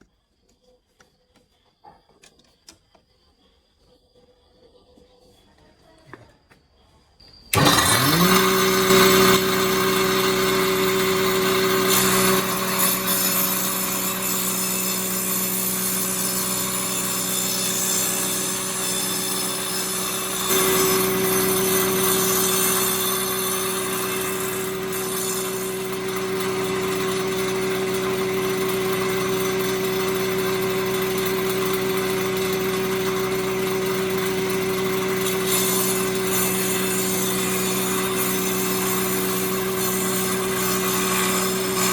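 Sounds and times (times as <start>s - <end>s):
power saw motor whining: 7.4s - 41.9s.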